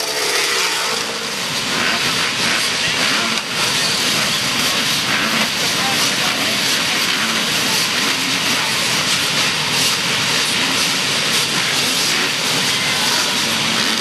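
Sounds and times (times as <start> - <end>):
racing engines rushing hiss: 0.0 - 14.0.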